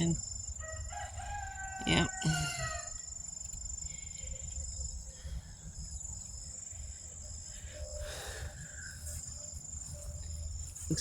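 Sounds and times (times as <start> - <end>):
insects singing high tone: 0.0 - 11.0.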